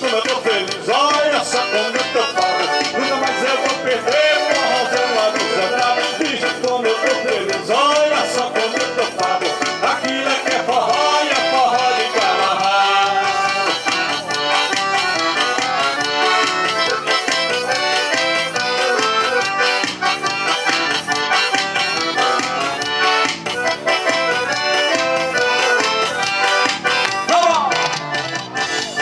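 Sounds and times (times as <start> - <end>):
accordion: 0.0 - 29.0
percussion beat: 0.0 - 29.0.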